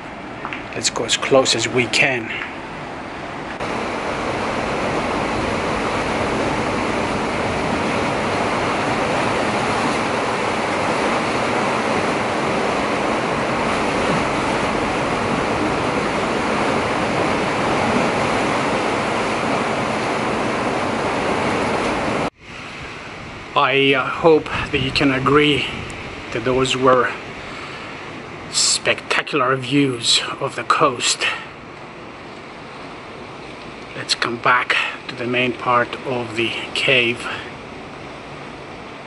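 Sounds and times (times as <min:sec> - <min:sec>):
ocean surf breaking on rocks: 0:00.0 - 0:39.0.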